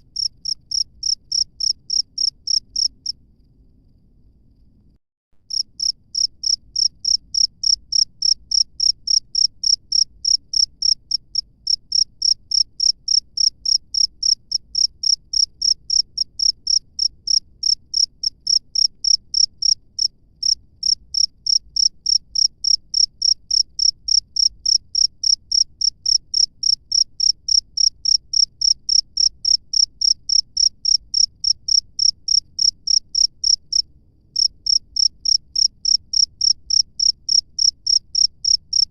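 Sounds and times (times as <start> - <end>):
cricket chirping: 0.0 - 4.9, 5.5 - 38.9.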